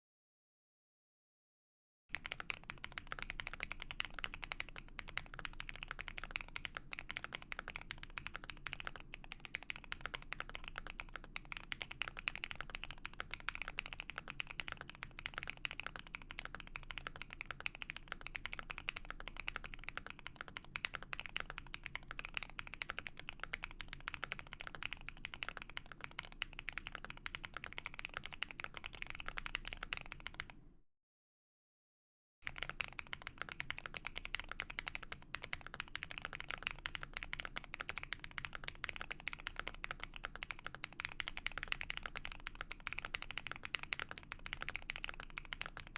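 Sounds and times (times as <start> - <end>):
fast typing on mechanical keyboard: 2.1 - 30.6, 32.4 - 45.9.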